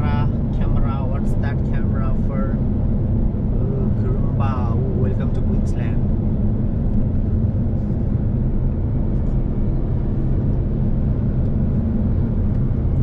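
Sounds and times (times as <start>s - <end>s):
car driving on motorway: 0.0s - 13.0s.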